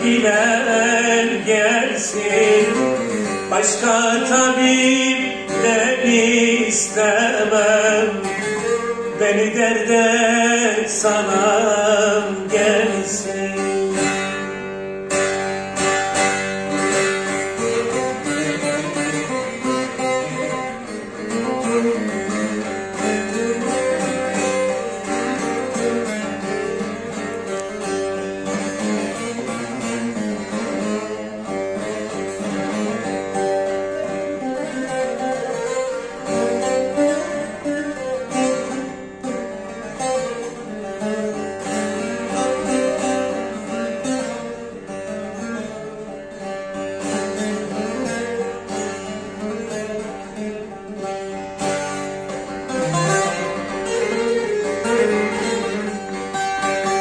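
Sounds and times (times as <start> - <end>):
plucked long-necked lute melody: 0.0 - 57.0.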